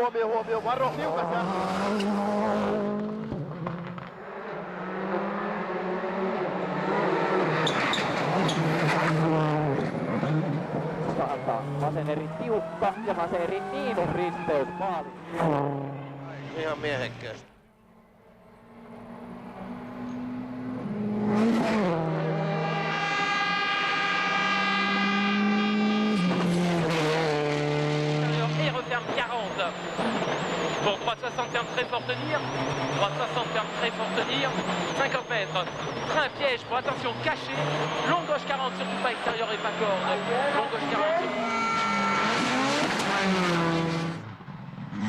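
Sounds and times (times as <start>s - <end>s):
tyre and road noise: 0.0s - 17.7s, 18.7s - 45.0s
rally car engine revving: 0.0s - 45.0s.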